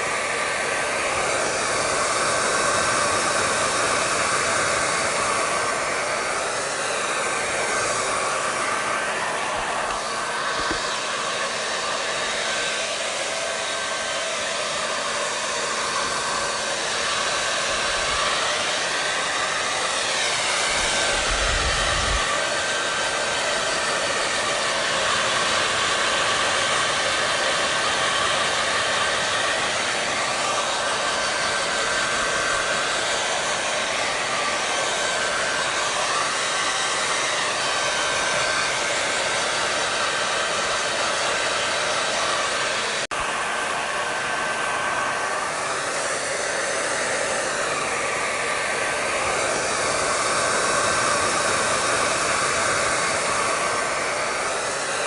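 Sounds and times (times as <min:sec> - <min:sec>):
fan motor whine: 0:00.0 - 0:55.0
hair dryer blowing air: 0:00.0 - 0:55.0.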